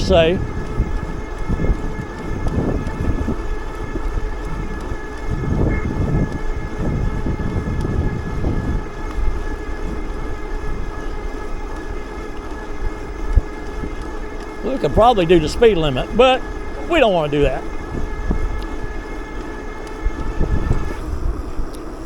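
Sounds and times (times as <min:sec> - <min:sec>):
steady high whine: 0:00.0 - 0:22.0
wind buffeting microphone: 0:00.0 - 0:22.0.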